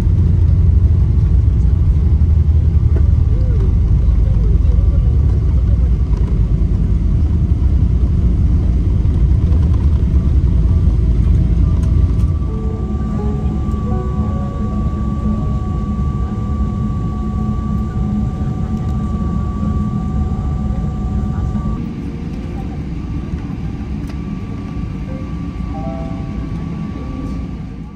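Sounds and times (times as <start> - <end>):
aircraft cabin low rumble: 0.0 - 27.9
steady whine: 0.0 - 27.9.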